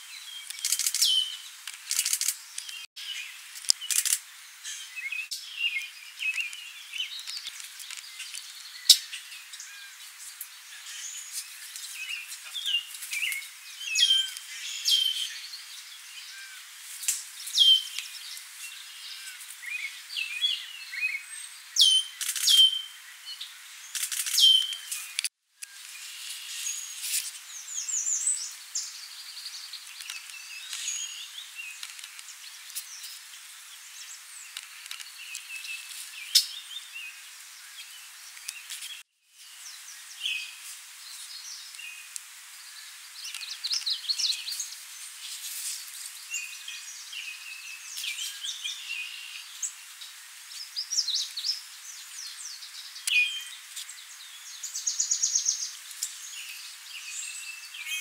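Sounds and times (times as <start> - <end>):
songbirds singing and chirping: 0.0 - 58.0
steady background hiss: 0.0 - 58.0.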